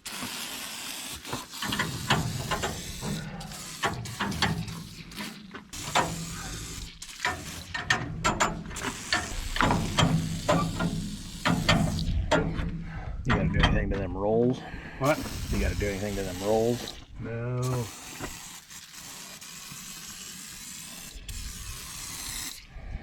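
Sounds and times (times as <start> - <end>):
hiss: 0.0 - 8.0, 8.8 - 12.2, 15.0 - 17.0, 17.7 - 22.7.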